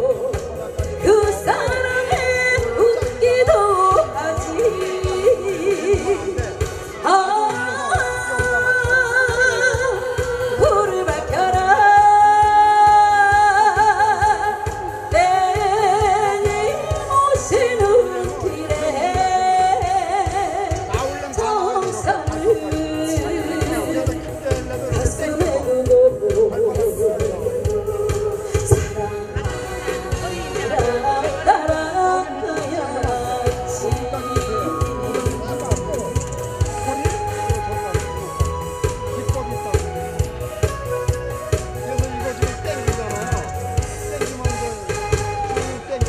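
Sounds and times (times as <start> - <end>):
woman singing into a microphone: 0.0 - 39.3
backing track with steady beat: 0.0 - 46.0.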